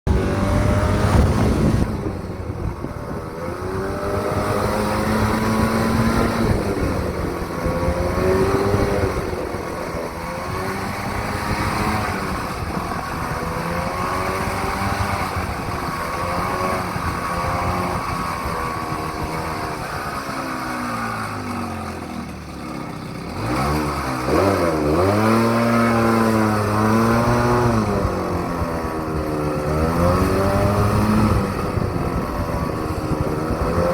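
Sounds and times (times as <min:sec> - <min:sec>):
truck engine revving: 0:00.1 - 0:20.2, 0:23.3 - 0:33.9.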